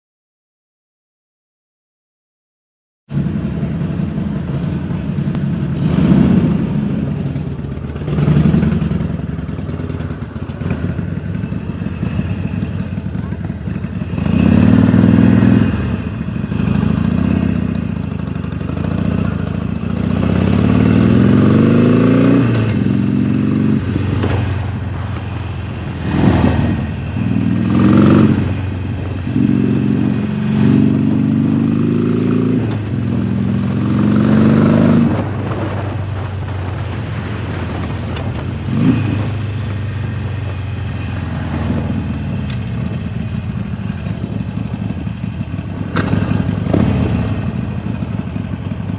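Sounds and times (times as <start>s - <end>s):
motorcycle engine accelerating: 3.1s - 48.9s.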